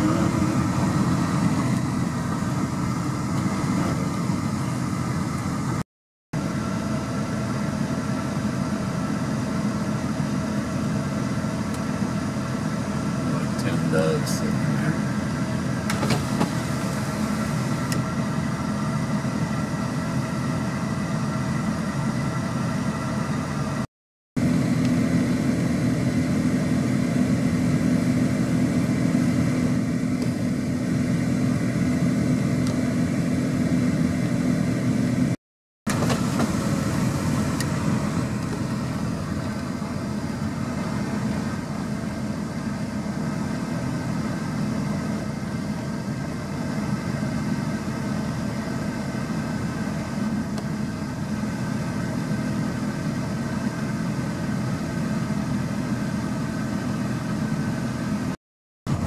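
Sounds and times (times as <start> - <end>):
vehicle engine idling: 0.0 - 5.8, 6.4 - 23.8, 24.4 - 58.3.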